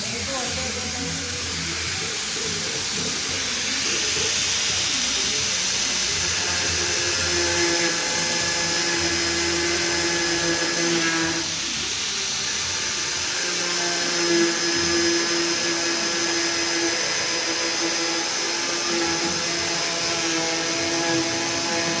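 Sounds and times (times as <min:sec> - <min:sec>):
electric cutter motor whining: 0:00.0 - 0:22.0.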